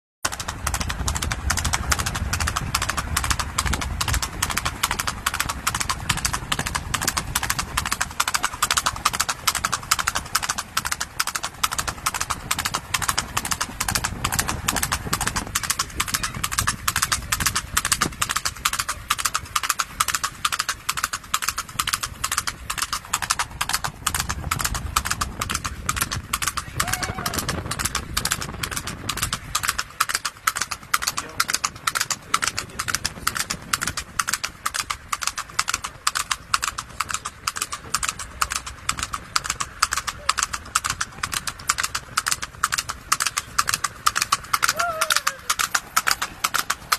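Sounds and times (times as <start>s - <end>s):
galloping hoofbeats on asphalt: 0.3s - 46.9s.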